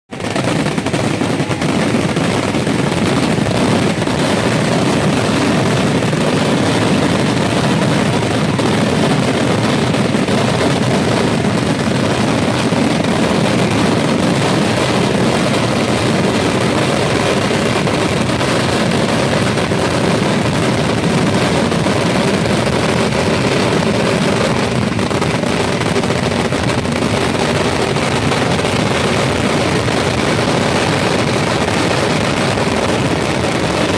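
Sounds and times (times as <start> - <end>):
rapid firecracker bangs: 0.1 - 33.9.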